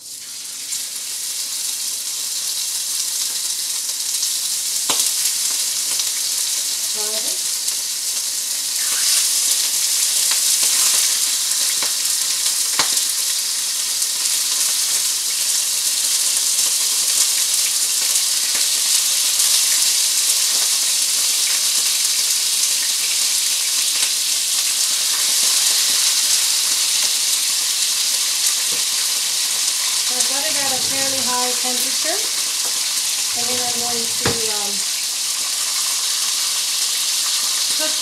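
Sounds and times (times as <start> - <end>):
meat sizzling in a frying pan: 0.0 - 38.0.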